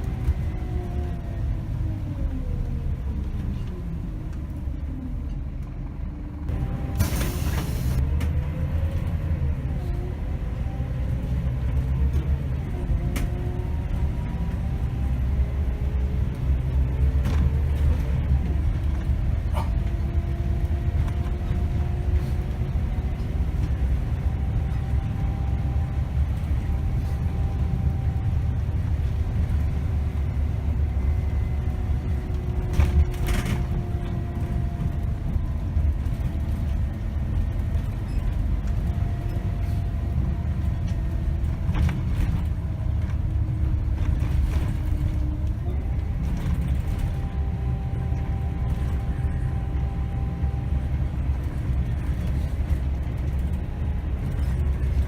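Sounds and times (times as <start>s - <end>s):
bus diesel engine: 0.0s - 55.0s
bus rattles and clicks: 0.0s - 55.0s
drivetrain whine: 0.0s - 55.0s
road rumble: 0.0s - 55.0s.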